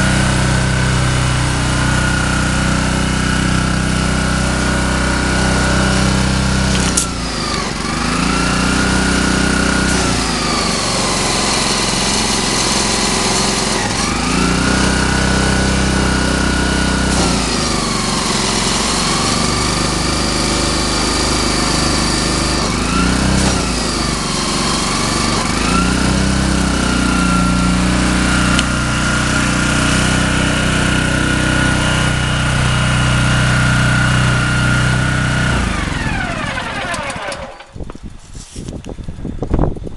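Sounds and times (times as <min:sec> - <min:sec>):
pressure washer engine running: 0:00.0 - 0:37.9.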